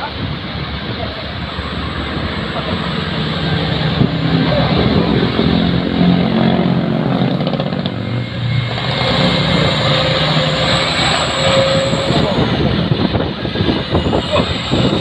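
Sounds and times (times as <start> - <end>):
truck engine running under load: 0.5 - 15.0.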